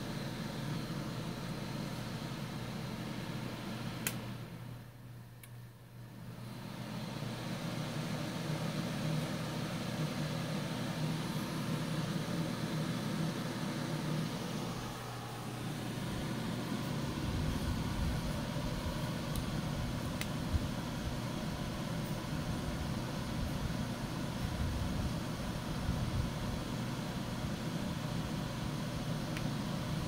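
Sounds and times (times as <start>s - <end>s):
space heater fan whirring: 0.0s - 30.0s.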